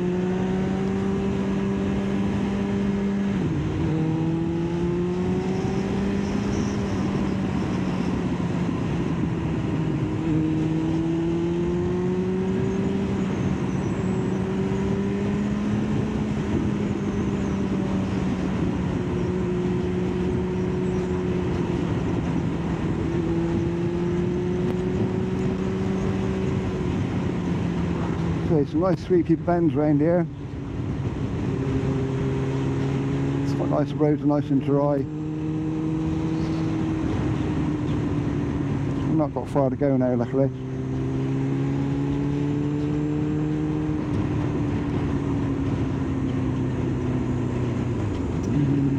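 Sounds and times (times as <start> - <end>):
motorcycle engine cruising: 0.0 - 48.9
wind and road noise: 0.0 - 48.9.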